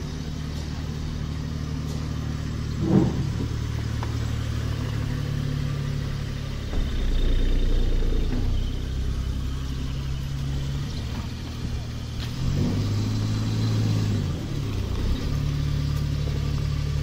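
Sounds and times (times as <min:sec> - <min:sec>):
van engine running: 0:00.0 - 0:17.0.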